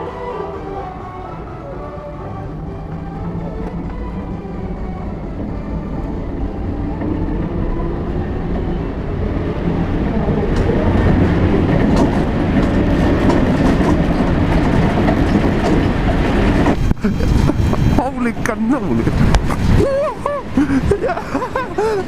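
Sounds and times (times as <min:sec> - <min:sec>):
wheels rumbling on concrete track: 0:00.0 - 0:22.0.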